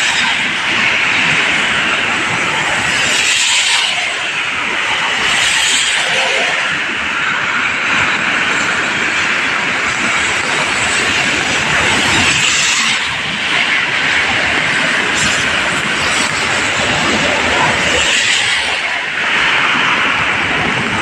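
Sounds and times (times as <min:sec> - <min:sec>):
rain: 0:00.0 - 0:21.0
sea waves washing on shore: 0:00.0 - 0:21.0.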